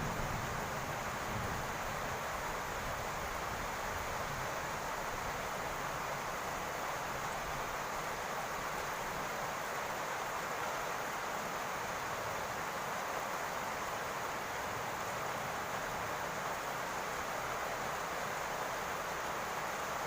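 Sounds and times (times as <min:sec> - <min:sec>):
rain on a roof: 0:00.0 - 0:20.0.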